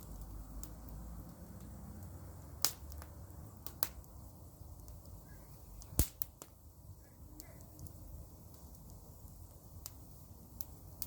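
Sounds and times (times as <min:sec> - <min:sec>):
sharp pops of fire: 0:00.0 - 0:11.0
wood fire crackling: 0:00.0 - 0:11.0.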